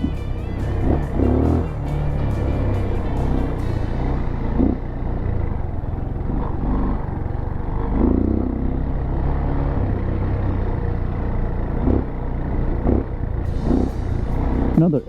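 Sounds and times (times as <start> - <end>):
motorcycle engine rumbling and revving: 0.0 - 15.0.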